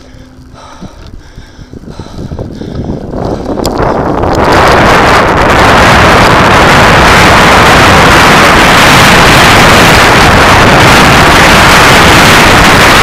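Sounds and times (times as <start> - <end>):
low rumble: 0.0 - 13.0
wind rushing over microphone: 0.0 - 13.0.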